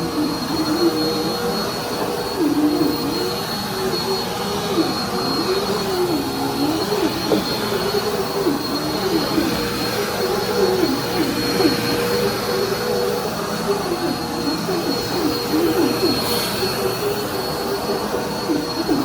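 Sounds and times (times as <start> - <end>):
vacuum cleaner running on carpet: 0.0 - 19.0.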